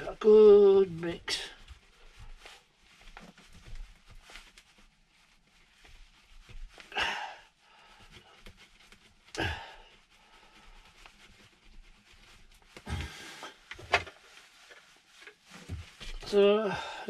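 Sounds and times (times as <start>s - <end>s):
epoxy stirred on cardboard: 0.0s - 16.4s.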